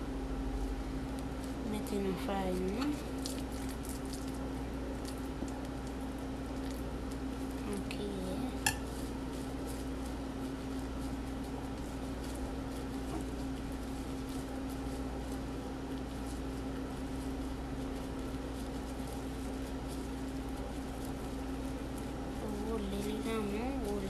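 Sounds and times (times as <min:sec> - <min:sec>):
meat mixture squishing: 0:00.0 - 0:24.0
steady background hum: 0:00.0 - 0:24.0.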